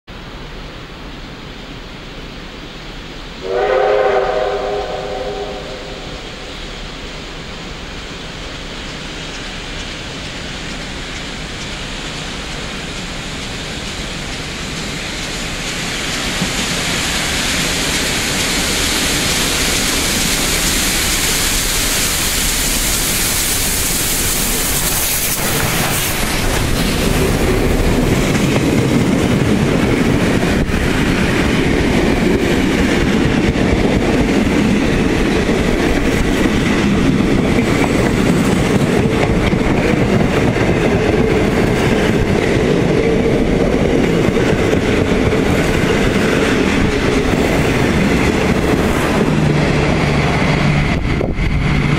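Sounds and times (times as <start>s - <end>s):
steam train hissing: 0.2s - 51.9s
train wheels clattering on rails: 4.8s - 51.9s.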